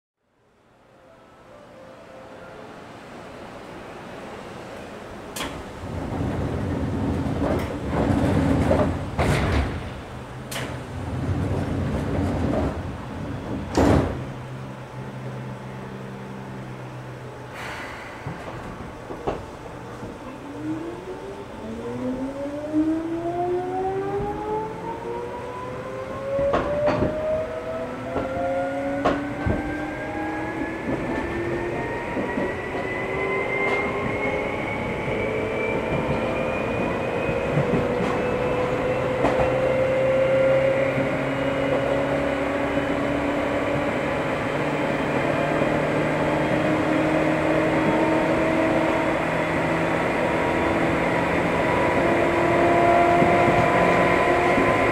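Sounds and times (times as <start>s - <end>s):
wheels rumbling: 5.3s - 54.9s.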